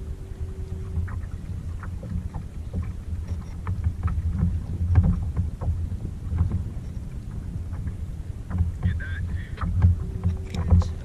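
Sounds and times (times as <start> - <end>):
water drips and splashes: 0.0 - 11.0
water lapping against kayak: 0.0 - 11.0
wind rumbling on microphone: 0.0 - 11.0.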